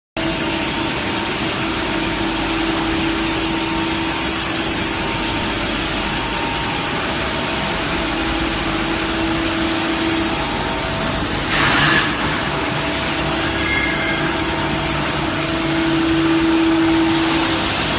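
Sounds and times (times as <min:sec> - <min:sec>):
machinery humming and droning: 0:00.2 - 0:17.9.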